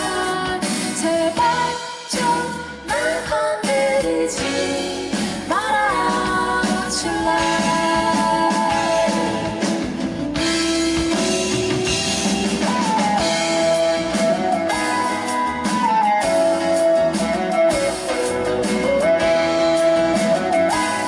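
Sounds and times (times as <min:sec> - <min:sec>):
drum kit: 0:00.0 - 0:21.0
guitar: 0:00.0 - 0:21.0.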